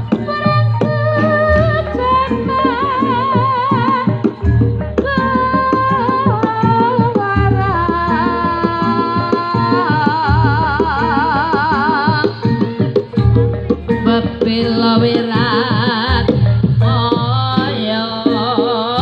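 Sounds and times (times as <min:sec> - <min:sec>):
hand drum strokes: 0:00.0 - 0:19.0.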